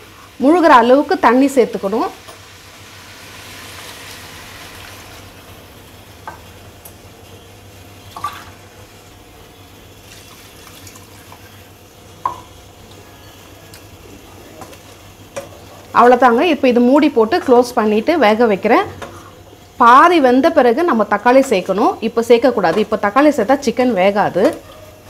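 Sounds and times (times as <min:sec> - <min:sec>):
water hissing in hot pan: 0:00.0 - 0:22.4.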